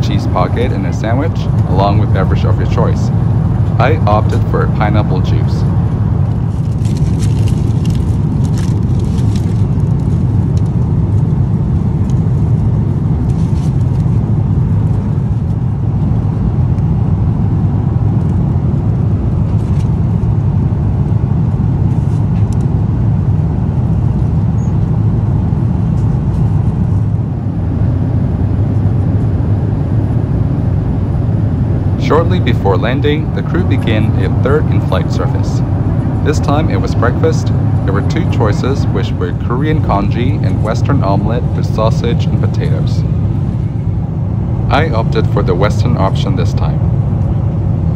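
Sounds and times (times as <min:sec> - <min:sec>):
airplane cabin engine rush: 0:00.0 - 0:47.9.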